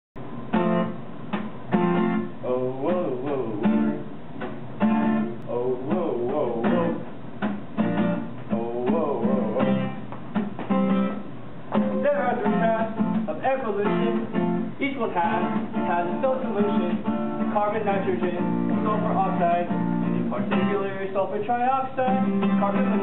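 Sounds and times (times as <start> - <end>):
acoustic guitar strumming: 0.2 - 23.0.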